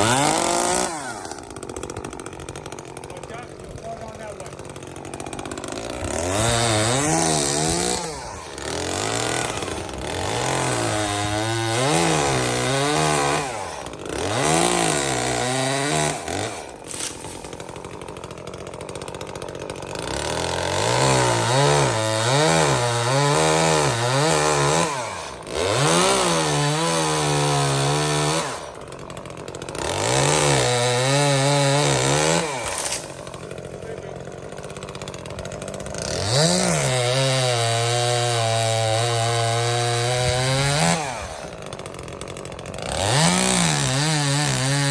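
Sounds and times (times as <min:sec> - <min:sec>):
chainsaw engine revving: 0:00.0 - 0:44.9
chainsaw idling: 0:00.0 - 0:44.9.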